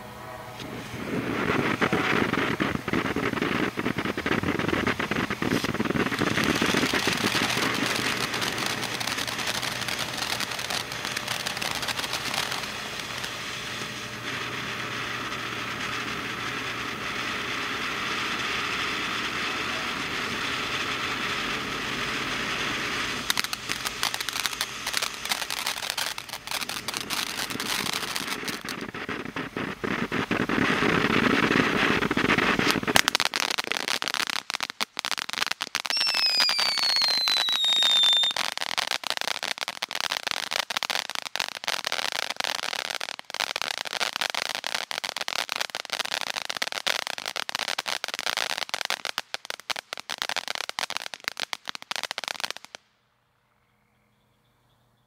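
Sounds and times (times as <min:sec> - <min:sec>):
firework fountain hissing and crackling: 0:00.0 - 0:53.1.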